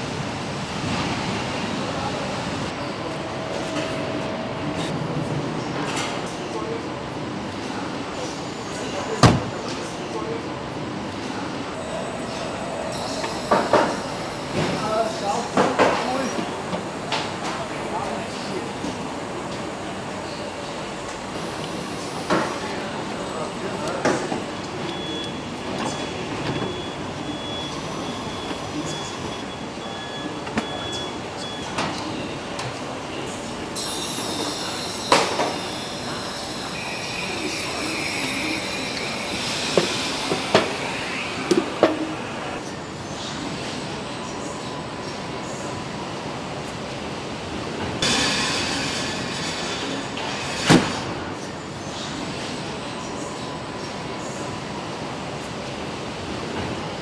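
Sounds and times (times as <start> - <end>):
factory machinery noise: 0.0 - 57.0.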